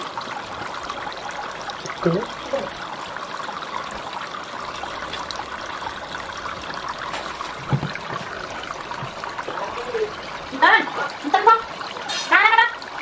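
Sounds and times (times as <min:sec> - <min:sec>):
faucet running into water: 0:00.0 - 0:13.0
light water splashing: 0:00.0 - 0:13.0.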